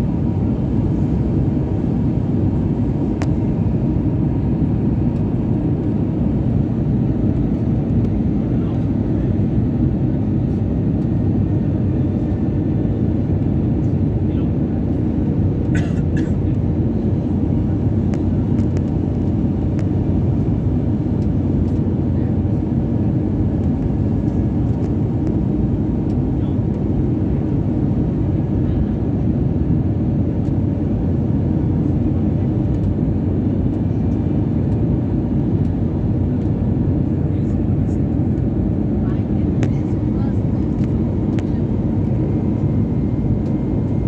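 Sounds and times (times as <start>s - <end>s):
airliner cabin rumble: 0.0s - 44.0s.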